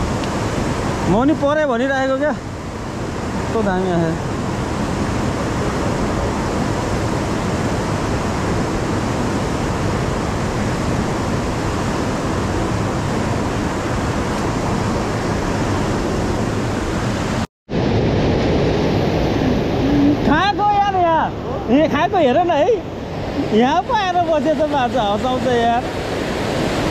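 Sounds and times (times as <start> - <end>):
stream in flood roaring: 0.0 - 26.9.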